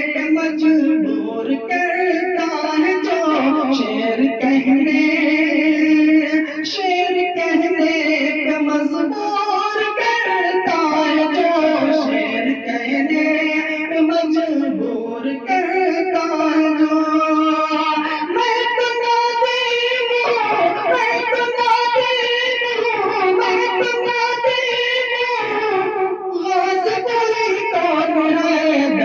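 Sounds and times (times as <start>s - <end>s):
man singing long notes: 0.0s - 29.0s.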